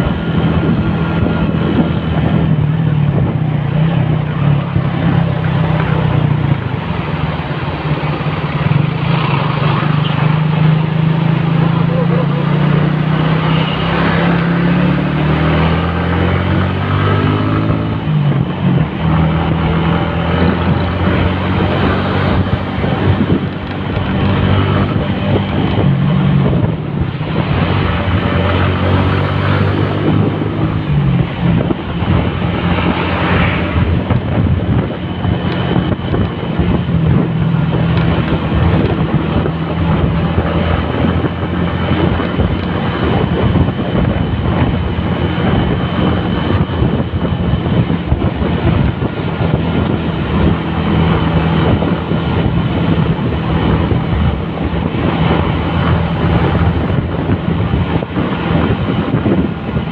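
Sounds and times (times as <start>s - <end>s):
buses and cars: 0.0s - 59.9s
motorcycle engine running: 0.0s - 59.9s.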